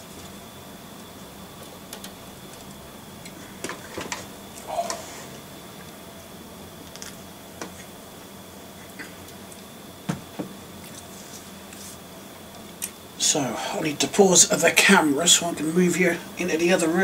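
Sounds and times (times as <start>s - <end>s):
faint high whine: 0.0s - 17.0s.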